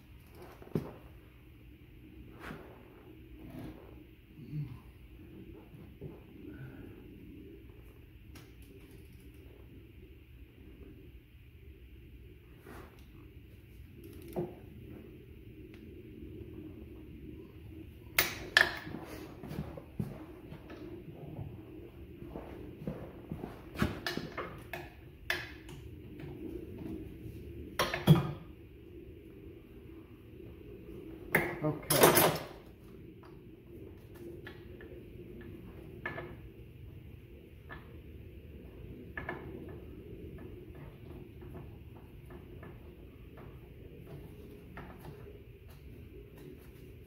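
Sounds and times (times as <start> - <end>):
low steady rumble: 0.0 - 47.0.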